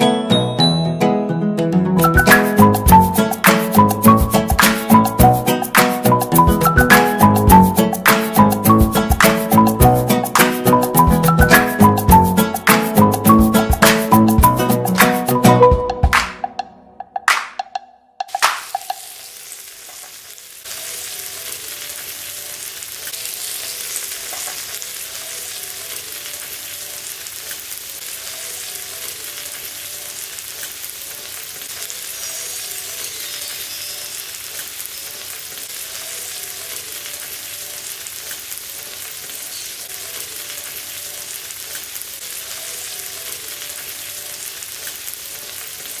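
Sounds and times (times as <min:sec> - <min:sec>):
chicken sizzling on a griddle: 0:02.0 - 0:15.5, 0:18.3 - 0:46.0.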